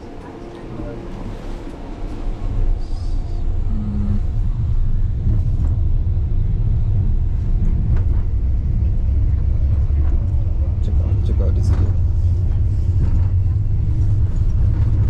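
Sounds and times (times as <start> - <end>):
monorail car rumbling: 0.0 - 15.0.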